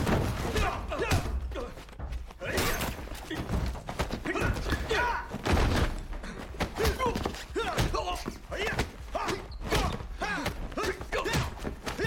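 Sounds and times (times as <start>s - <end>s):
punches landing with thuds: 0.0s - 12.0s
fighters grunting: 0.5s - 12.0s.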